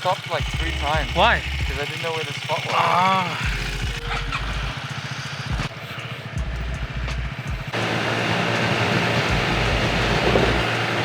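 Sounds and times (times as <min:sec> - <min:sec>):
loud steady sound: 0:00.0 - 0:11.0
motorcycle engine idling: 0:00.0 - 0:11.0.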